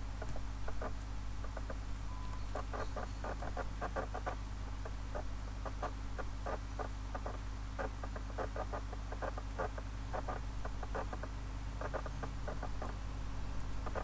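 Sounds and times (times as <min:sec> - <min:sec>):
low electrical hum: 0:00.0 - 0:14.0
rapid small clicks: 0:00.2 - 0:13.0.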